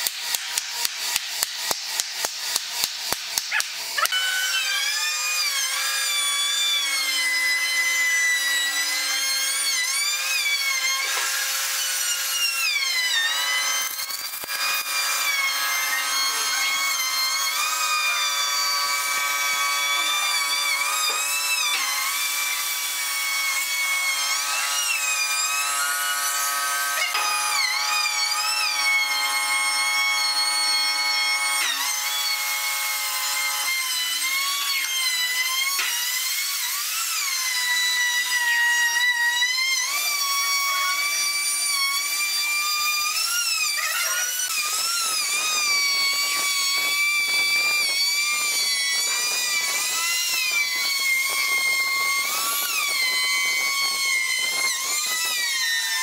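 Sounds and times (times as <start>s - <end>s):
rough wood cutting noise: 0.0s - 56.0s
trim router whining: 1.9s - 56.0s.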